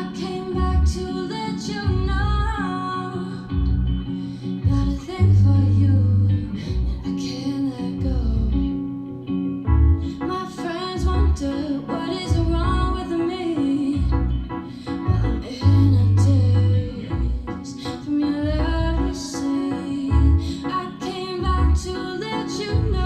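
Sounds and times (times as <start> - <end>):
song with singing and guitar: 0.0 - 23.0.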